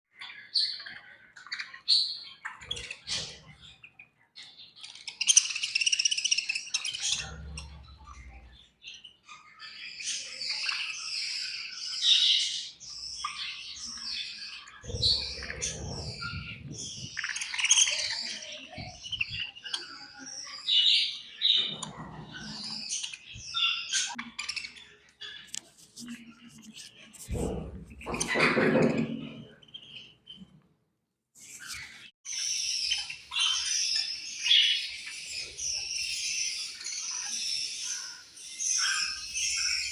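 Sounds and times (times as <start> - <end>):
budgerigars chirping and chattering: 0.1 - 30.6, 31.4 - 39.9.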